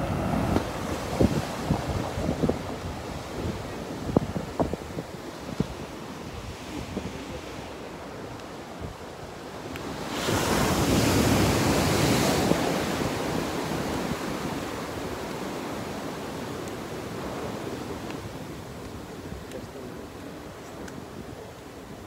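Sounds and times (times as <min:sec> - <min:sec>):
ocean surf washing: 0:00.0 - 0:22.0
wind on microphone: 0:00.0 - 0:22.0.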